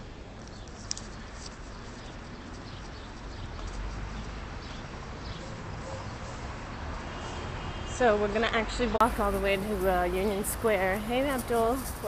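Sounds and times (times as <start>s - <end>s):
traffic hum: 0.0s - 12.0s
footsteps on sidewalk: 0.1s - 7.6s, 9.0s - 12.0s.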